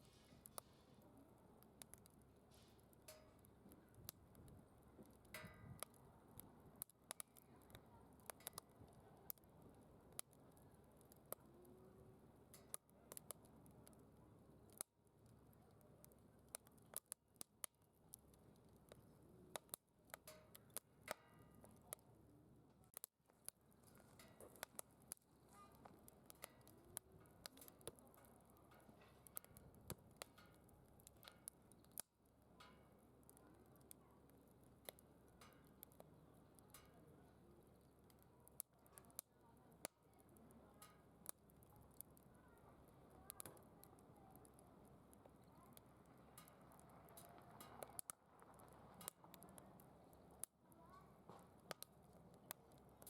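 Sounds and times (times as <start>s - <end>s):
firewood crackling and popping: 0.0s - 53.0s.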